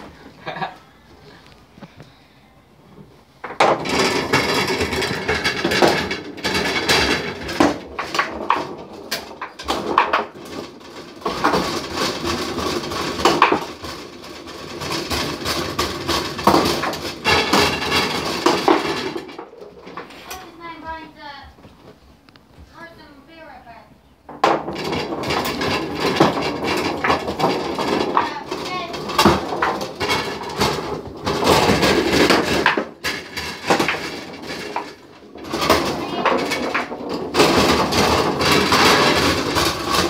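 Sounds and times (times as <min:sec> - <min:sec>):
foosball rods clattering: 0:00.0 - 0:02.1, 0:03.0 - 0:21.2, 0:24.2 - 0:40.0
plastic players striking ball: 0:03.4 - 0:21.0, 0:24.3 - 0:40.0
ball banging against wooden walls: 0:03.4 - 0:22.0, 0:24.2 - 0:40.0.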